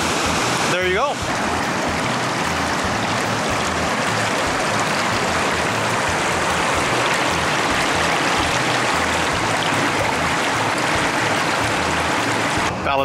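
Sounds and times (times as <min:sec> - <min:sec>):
river rapids rushing over rocks: 0:00.0 - 0:12.7.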